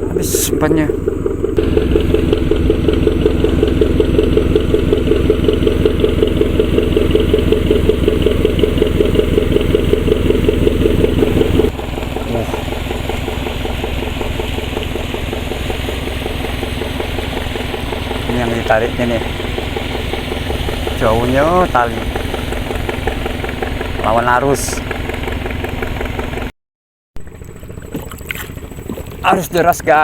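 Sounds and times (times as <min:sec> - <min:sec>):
small boat engine puttering: 0:00.0 - 0:26.5, 0:27.2 - 0:30.0.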